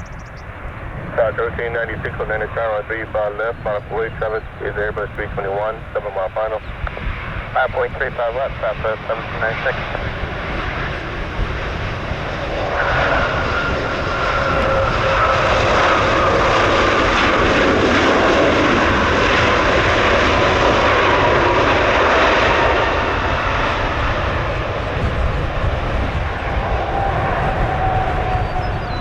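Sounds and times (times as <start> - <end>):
jet airliner engines passing: 0.0 - 29.0
low rumble: 0.0 - 29.0.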